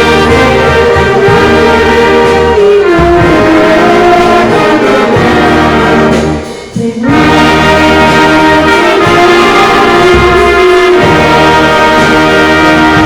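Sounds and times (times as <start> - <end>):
band playing worship song: 0.0 - 13.0
sustained brass-like notes: 0.0 - 13.0.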